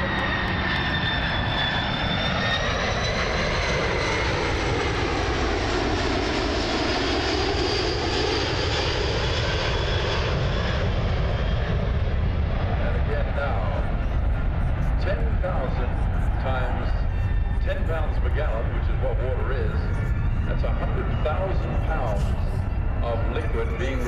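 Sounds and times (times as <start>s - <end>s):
jet engines flying past: 0.0s - 24.0s.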